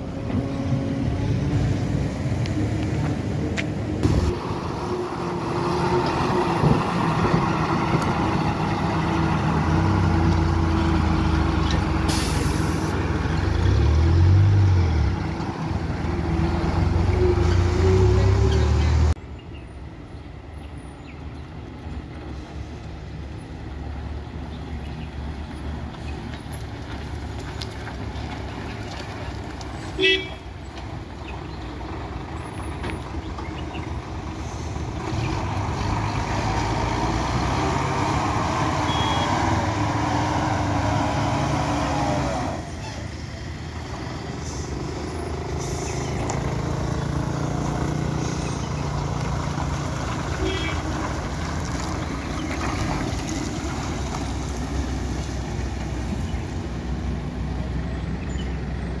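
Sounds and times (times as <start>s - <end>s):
lorry diesel engine: 0.0s - 59.0s.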